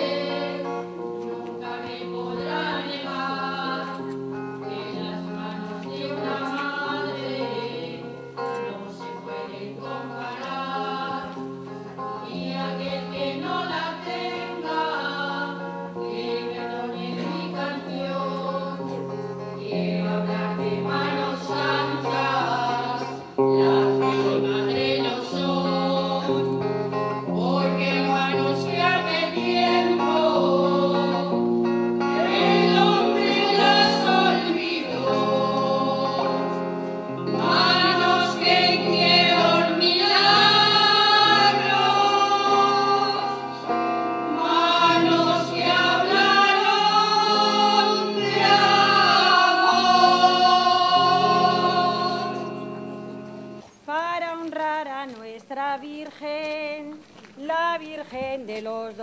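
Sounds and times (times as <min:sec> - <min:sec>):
several voices singing: 0:00.0 - 0:53.6.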